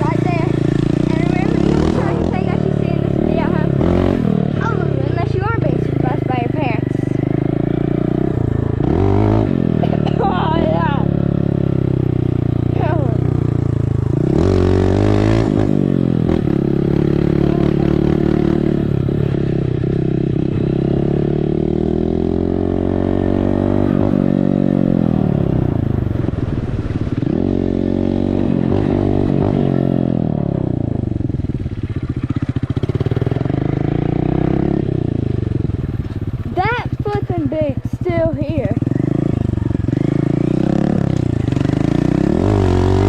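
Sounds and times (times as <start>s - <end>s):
dirt bike engine revving: 0.0s - 25.8s, 27.0s - 31.1s, 31.9s - 43.0s.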